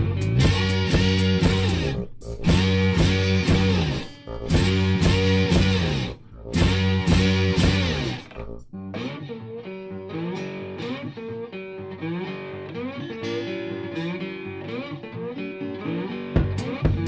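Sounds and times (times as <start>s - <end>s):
guitar plucking notes and chords: 0.0s - 17.0s.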